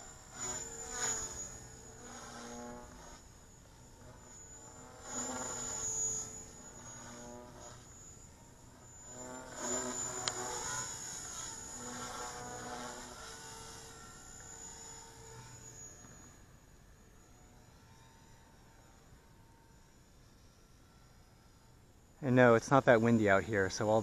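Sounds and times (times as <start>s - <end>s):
rc helicopter rotor hum: 0.0s - 24.0s
thin high whine: 0.0s - 24.0s.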